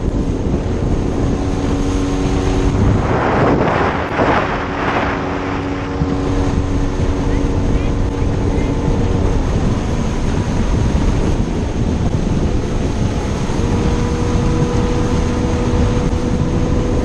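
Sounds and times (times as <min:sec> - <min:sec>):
boat engine hum: 0:00.0 - 0:17.0
hull rushing through water: 0:00.0 - 0:17.0
wind buffeting microphone: 0:00.0 - 0:17.0.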